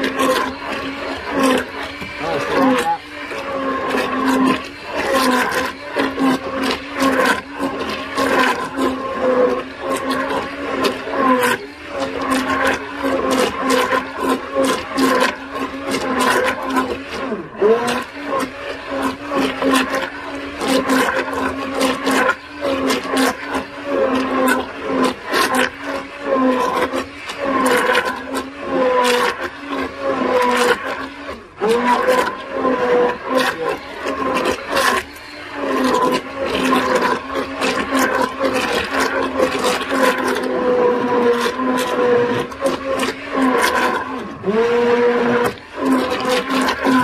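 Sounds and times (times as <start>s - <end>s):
blender head knocking pot: 0.0s - 47.0s
stick blender motor whine: 0.0s - 47.0s.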